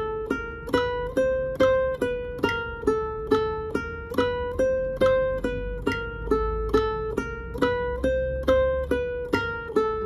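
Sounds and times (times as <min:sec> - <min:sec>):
classical guitar plucked notes: 0:00.0 - 0:10.0.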